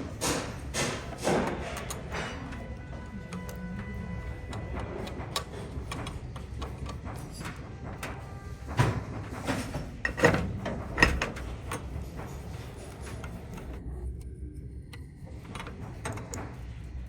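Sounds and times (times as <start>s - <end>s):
tools and metal parts clicking: 0.0s - 13.8s, 15.0s - 17.0s.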